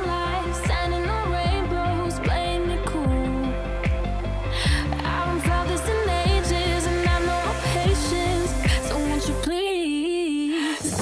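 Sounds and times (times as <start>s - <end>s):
electronic music with deep bass drum: 0.0s - 9.8s, 10.8s - 11.0s.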